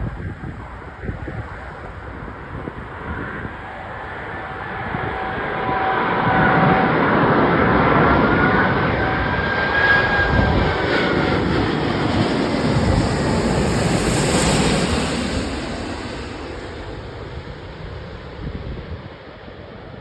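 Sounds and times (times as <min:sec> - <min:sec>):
high engine whine: 0:00.0 - 0:20.0
jet engines passing: 0:00.0 - 0:20.0.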